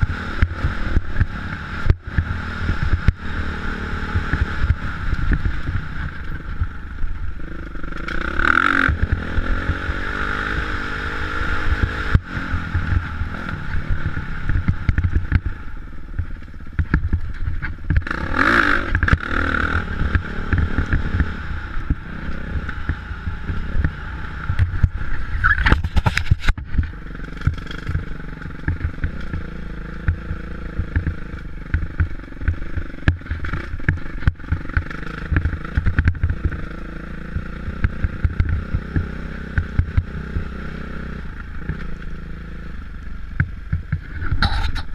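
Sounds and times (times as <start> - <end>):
dirt bike engines running: 0.0 - 44.9.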